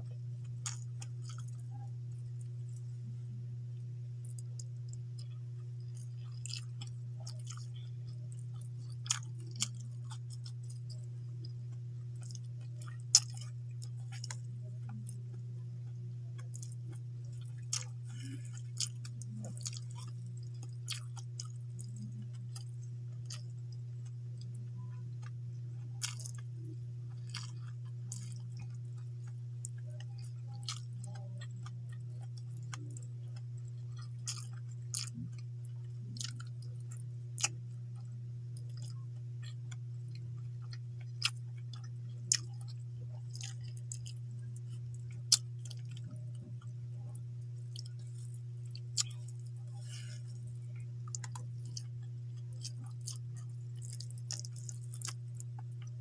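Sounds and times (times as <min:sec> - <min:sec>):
person chewing food: 0:00.0 - 0:03.2, 0:04.2 - 0:56.0
low hum: 0:00.0 - 0:56.0.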